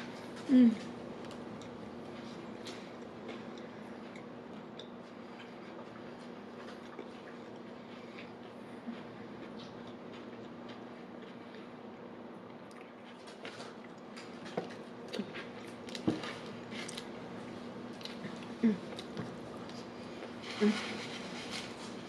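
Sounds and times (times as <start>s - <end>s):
person chewing food: 0.0s - 11.8s, 12.5s - 22.0s
faint steady hum: 0.0s - 22.0s.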